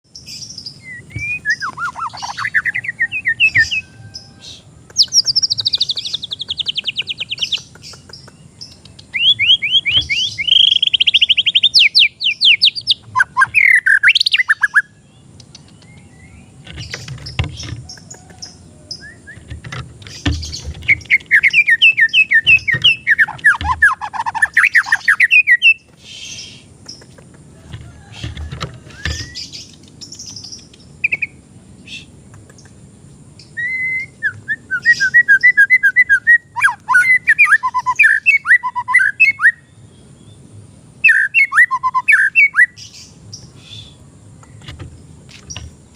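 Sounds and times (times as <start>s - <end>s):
bird singing: 0.1s - 45.9s.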